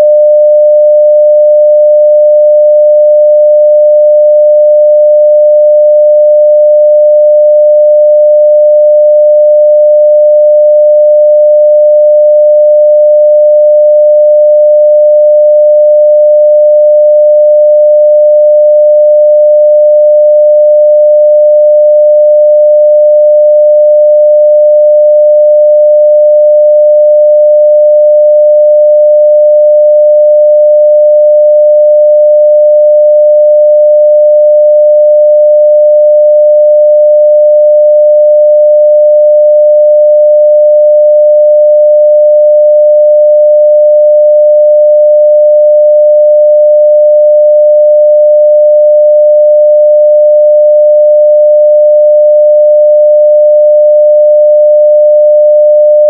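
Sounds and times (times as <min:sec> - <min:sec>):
sine-wave test tone: 0:00.0 - 0:56.0.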